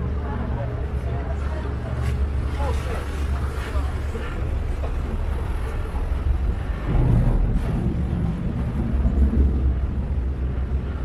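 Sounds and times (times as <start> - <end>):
motorboat engine rumble: 0.0 - 11.0
wind buffeting microphone: 0.0 - 11.0.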